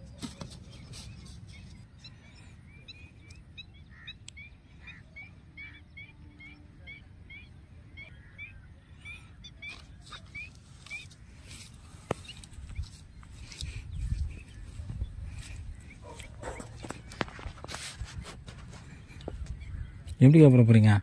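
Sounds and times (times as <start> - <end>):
bird chirping: 0.0 - 20.7.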